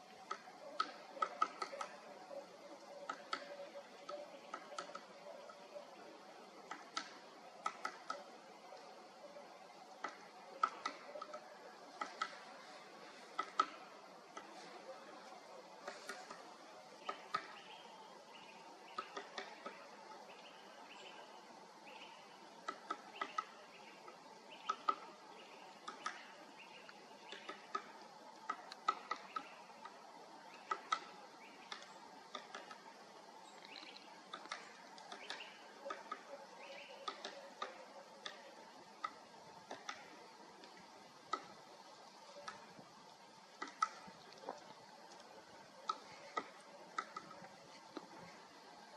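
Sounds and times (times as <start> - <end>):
birds chirping: 0.0 - 48.9
woodpecker pecking wood: 0.0 - 48.9.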